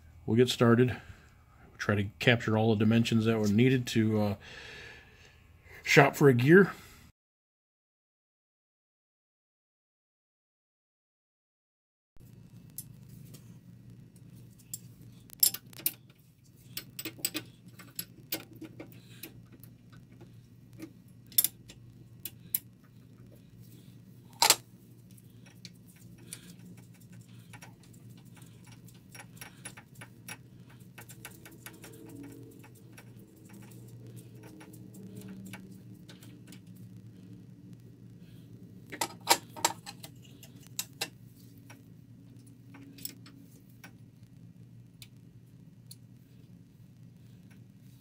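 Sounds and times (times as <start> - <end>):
low steady hum: 0.0 - 7.1, 12.2 - 48.0.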